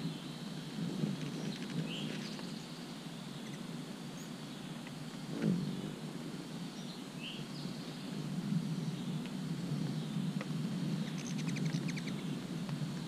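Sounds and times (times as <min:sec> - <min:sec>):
rain on trees and leaves: 0:00.0 - 0:13.0.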